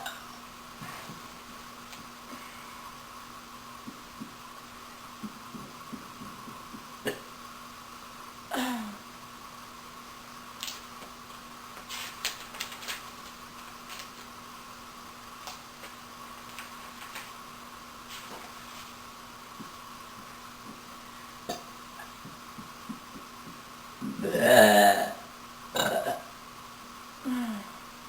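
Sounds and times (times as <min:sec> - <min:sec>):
electrical room hum: 0:00.0 - 0:28.0.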